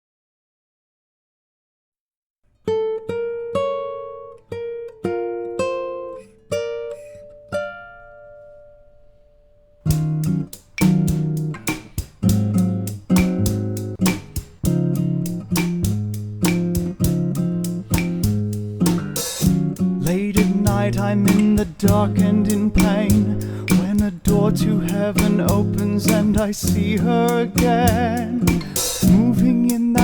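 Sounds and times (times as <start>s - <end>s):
plucked guitar: 2.6s - 30.0s.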